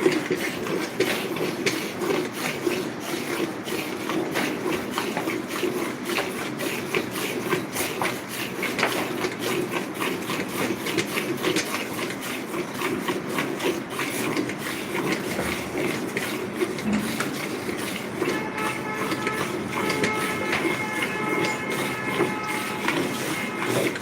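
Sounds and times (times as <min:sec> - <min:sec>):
buffalo milking strokes: 0:00.0 - 0:24.0.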